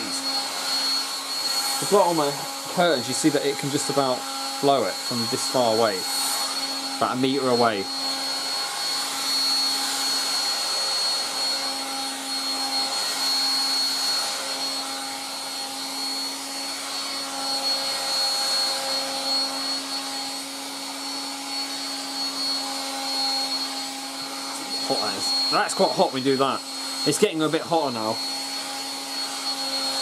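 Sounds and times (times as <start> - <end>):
hairdryer motor hum and whine: 0.0 - 30.0.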